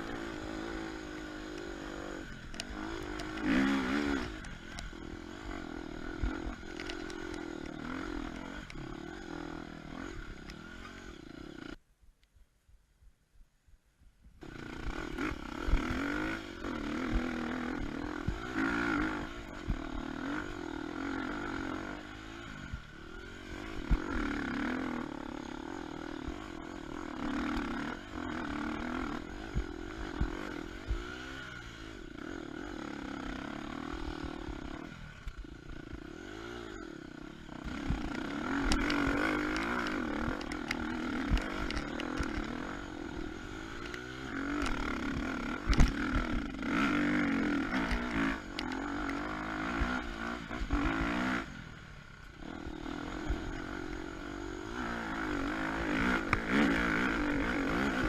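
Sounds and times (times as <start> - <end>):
dirt bike engine revving: 0.0 - 11.8, 14.4 - 58.0.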